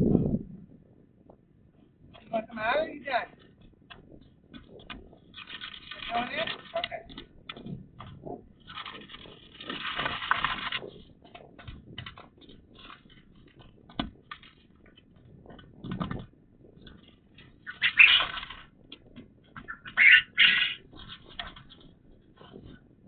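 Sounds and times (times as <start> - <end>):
birds scratching in cage: 2.1 - 22.9.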